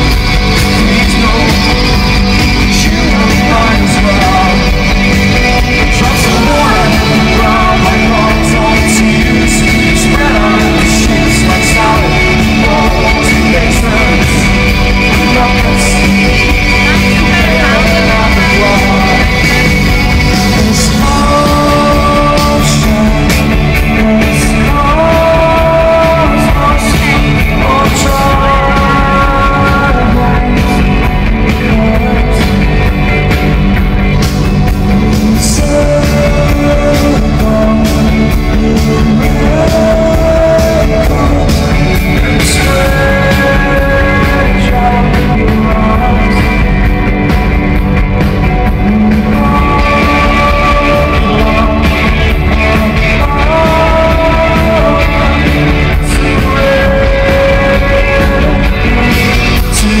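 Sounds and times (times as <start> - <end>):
live rock band playing: 0.0 - 60.0
singer holding long notes: 0.0 - 60.0.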